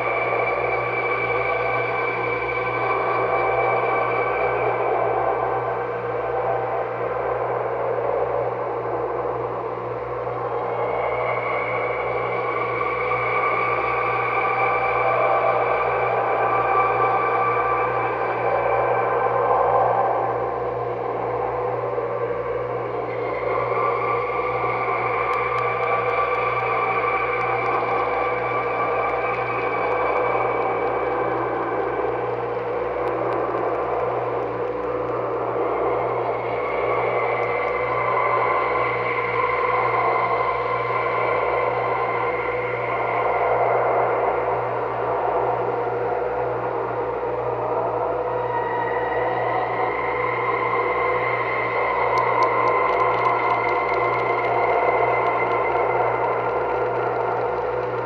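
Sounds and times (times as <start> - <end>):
layered horror drone: 0.0 - 58.0
noisy wash: 0.0 - 58.0.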